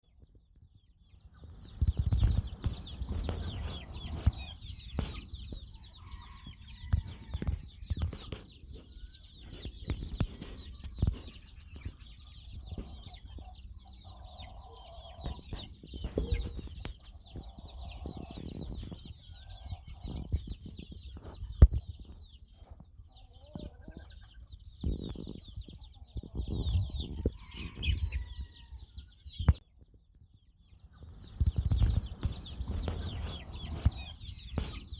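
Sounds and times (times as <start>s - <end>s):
young roosters peeping and chirping: 0.0s - 34.9s
chicken clucks: 0.1s - 34.9s.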